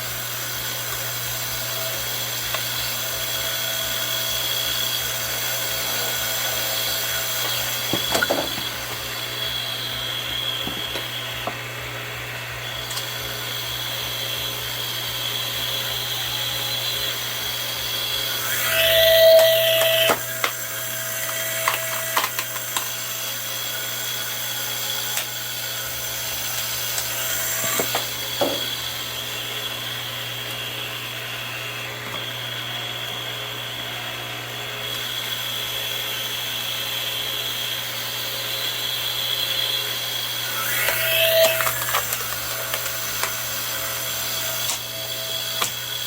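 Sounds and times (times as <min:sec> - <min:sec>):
hydraulic pump hum and whine: 0:00.0 - 0:46.0.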